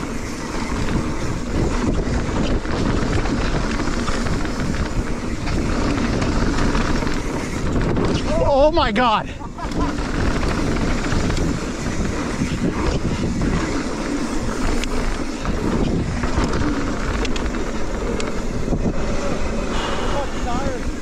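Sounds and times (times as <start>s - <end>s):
bike clicks and rattles: 0.0s - 21.0s
tyres rumbling on dirt: 0.0s - 21.0s
wind buffeting microphone: 0.0s - 21.0s.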